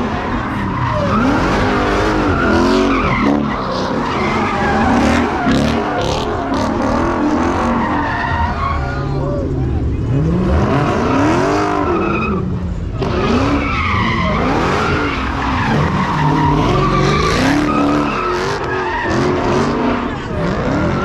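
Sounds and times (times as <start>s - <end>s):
car engines revving: 0.0s - 21.0s
tires squealing and skidding: 0.0s - 21.0s.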